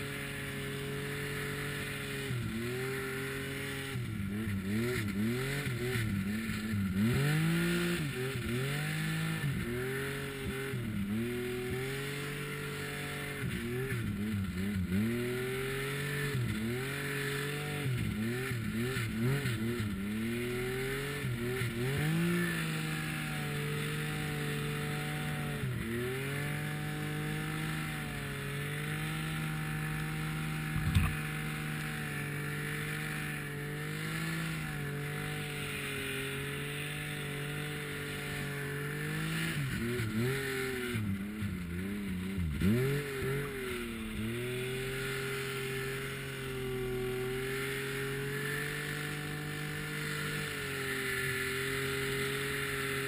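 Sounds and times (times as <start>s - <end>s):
snowmobile engine under load: 0.0s - 53.0s.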